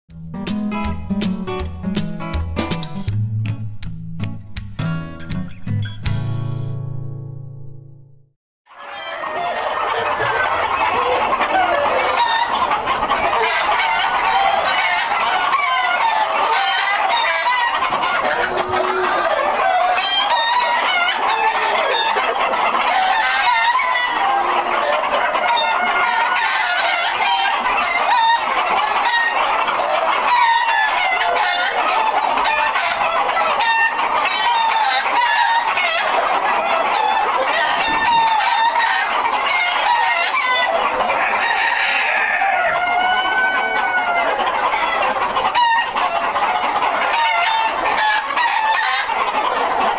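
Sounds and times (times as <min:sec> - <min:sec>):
chickens clucking and cackling: 0:08.7 - 0:49.9
roosters crowing: 0:08.7 - 0:49.9.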